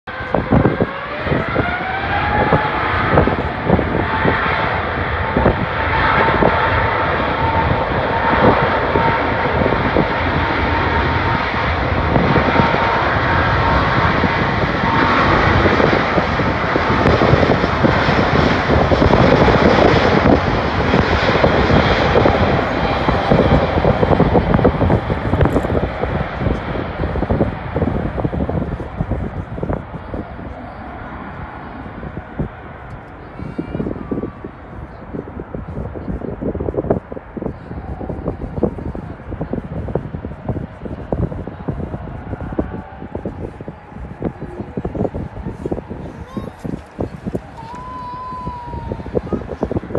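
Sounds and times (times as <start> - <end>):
jet engine roar: 0.1 - 49.9
jet engine whine: 0.1 - 49.9.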